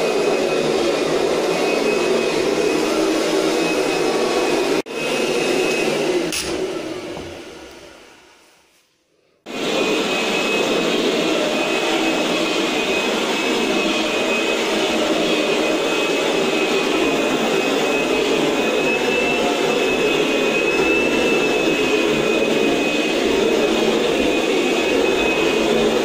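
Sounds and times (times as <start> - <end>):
vacuum cleaner running: 0.0 - 8.8, 9.5 - 26.0.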